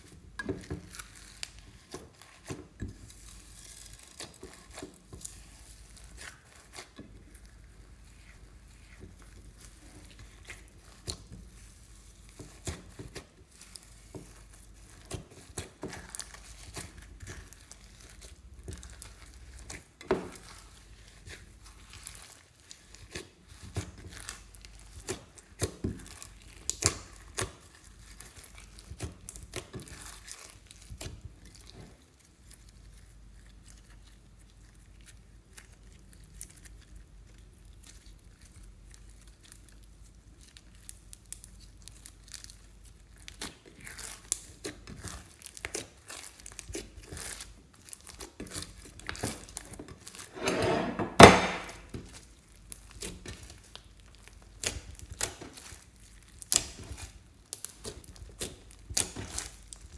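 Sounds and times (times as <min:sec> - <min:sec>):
slime clicking and crackling: 0:00.2 - 0:50.3, 0:51.7 - 0:59.9.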